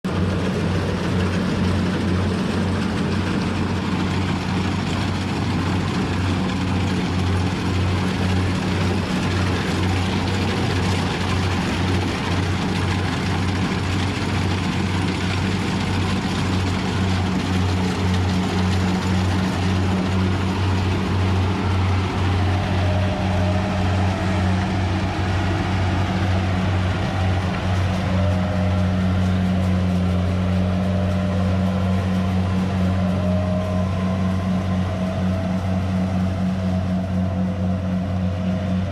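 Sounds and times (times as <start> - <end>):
harvester engine hum: 0.0 - 38.9.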